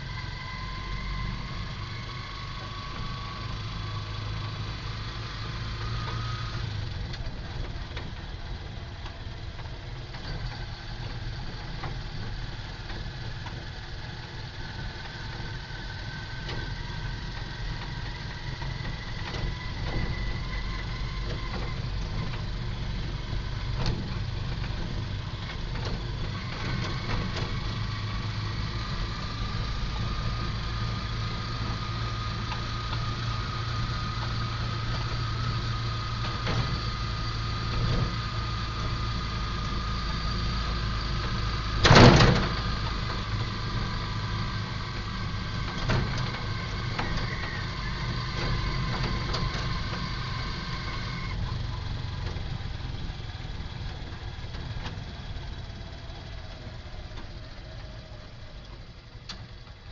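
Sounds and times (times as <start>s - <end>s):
road noise inside car: 0.0s - 59.9s
vehicle engine running: 0.0s - 59.9s.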